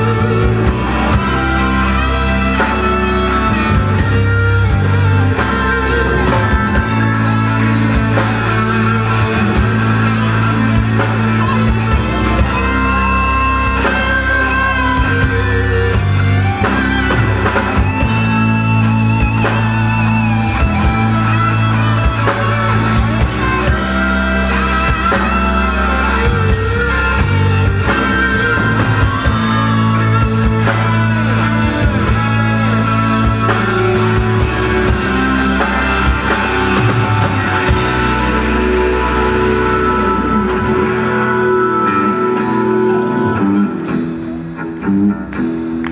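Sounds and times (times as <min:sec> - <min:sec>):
bass guitar: 0:00.0 - 0:45.9
drums: 0:00.0 - 0:45.9
electric guitar lead: 0:00.0 - 0:45.9.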